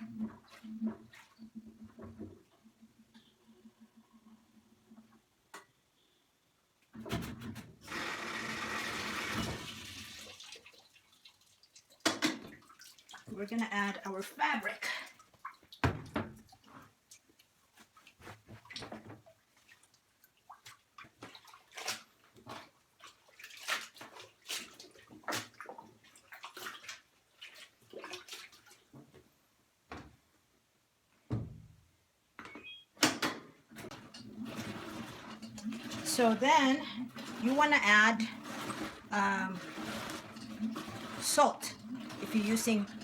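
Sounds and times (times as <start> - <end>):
water splashing and sloshing: 0.0 - 5.3, 9.0 - 30.2, 33.6 - 43.0.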